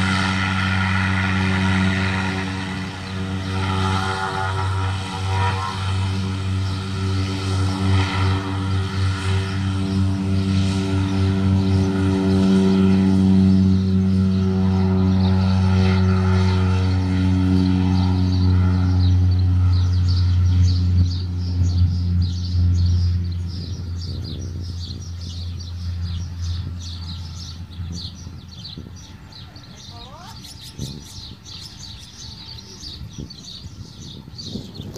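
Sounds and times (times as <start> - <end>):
turboprop propeller drone: 0.0 - 34.9.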